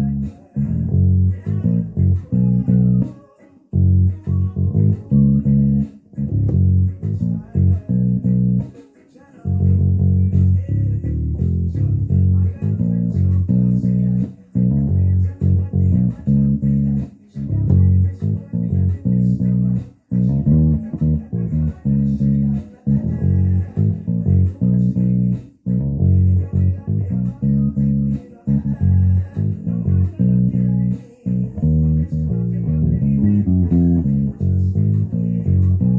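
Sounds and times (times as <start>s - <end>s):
fingerstyle electric bass: 0.0s - 3.1s, 3.7s - 8.7s, 9.4s - 35.9s.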